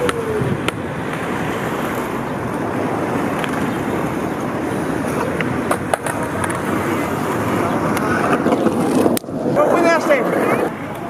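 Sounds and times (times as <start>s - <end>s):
skateboard wheels rolling on stone: 0.0s - 11.0s.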